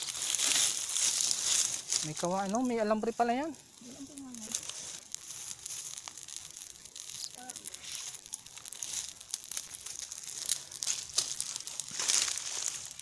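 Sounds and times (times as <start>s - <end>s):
dry palm fronds crackling: 0.0s - 13.0s
steady high hiss: 0.0s - 13.0s.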